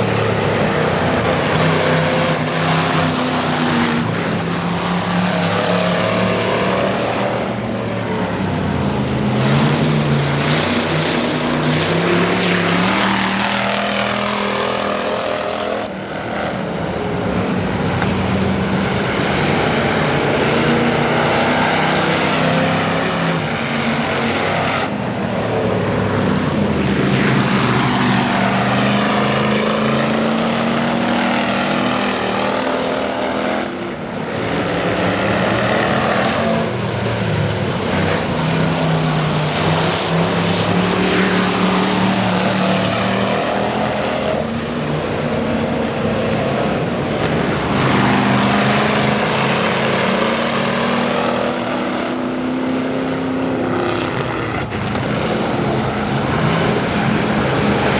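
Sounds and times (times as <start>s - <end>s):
race car engines passing: 0.0s - 57.9s.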